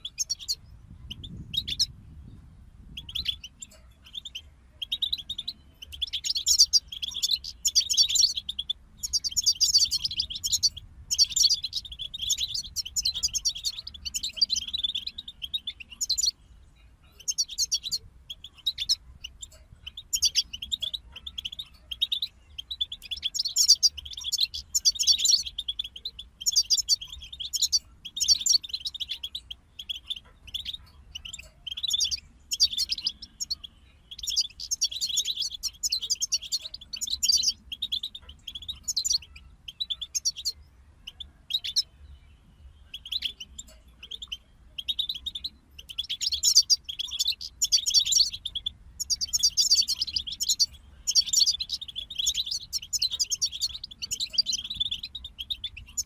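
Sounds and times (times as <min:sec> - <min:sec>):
goldfinch twittering song: 0:00.0 - 0:56.0.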